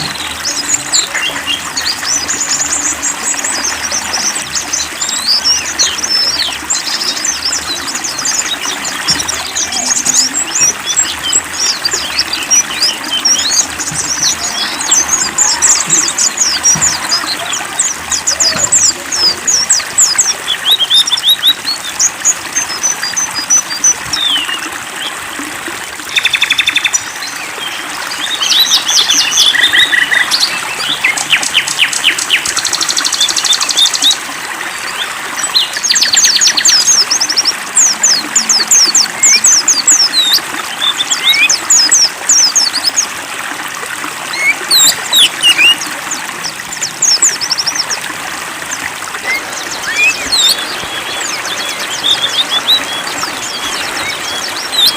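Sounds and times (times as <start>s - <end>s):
songbirds chirping and singing: 0.0s - 54.9s
trickle of running water: 0.0s - 54.9s.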